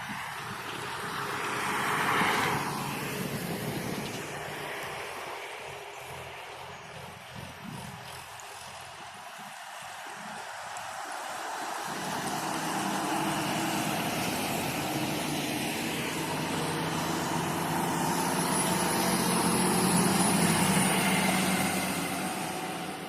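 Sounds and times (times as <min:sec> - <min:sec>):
diesel vehicle driving past: 0:00.0 - 0:23.0.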